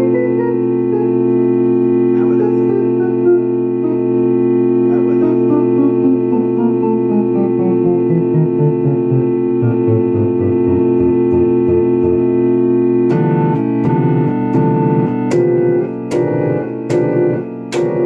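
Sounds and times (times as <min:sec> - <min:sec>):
electronic organ chords: 0:00.0 - 0:18.0
pulsing bass line: 0:00.0 - 0:18.0.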